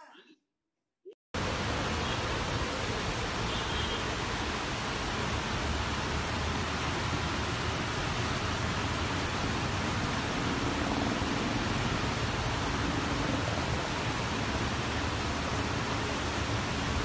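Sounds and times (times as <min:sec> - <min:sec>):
heavy rain pouring: 0:01.4 - 0:17.0.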